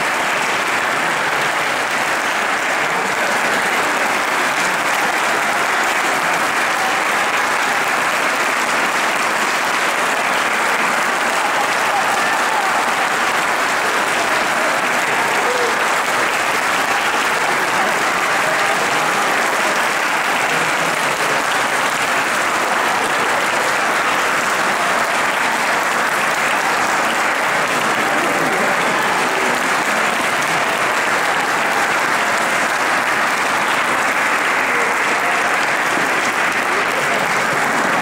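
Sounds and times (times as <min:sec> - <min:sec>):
audience applauding: 0:00.0 - 0:38.0.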